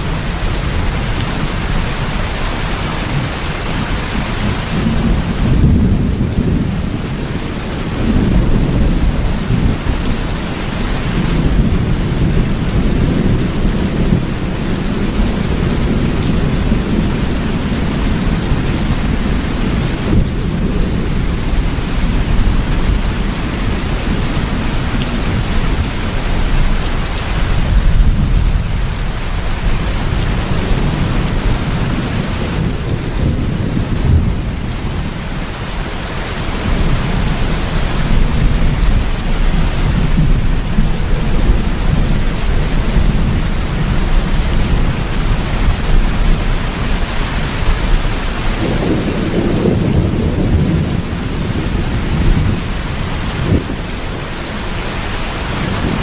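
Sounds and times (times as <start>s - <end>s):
heavy rain: 0.0s - 56.0s
low rolling thunder: 0.0s - 56.0s.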